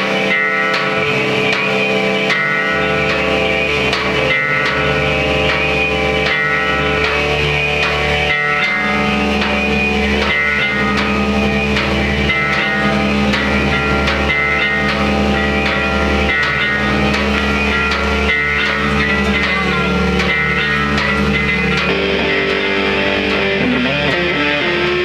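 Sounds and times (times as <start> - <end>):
live rock music: 0.0 - 25.0.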